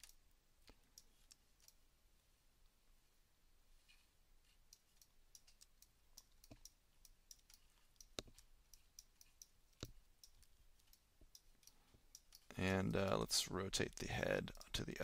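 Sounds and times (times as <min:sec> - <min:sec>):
computer mouse and keyboard clicking: 0:00.0 - 0:01.8, 0:04.5 - 0:15.0.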